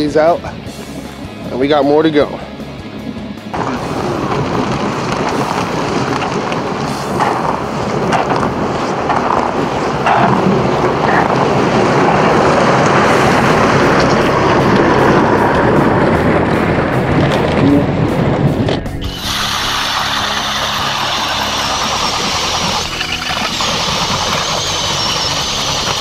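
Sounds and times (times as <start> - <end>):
sled scraping across ice: 3.6 - 26.0.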